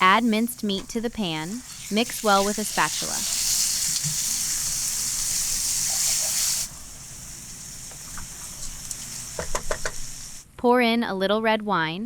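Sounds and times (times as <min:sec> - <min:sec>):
meat sizzling in a pan: 0:00.0 - 0:10.4.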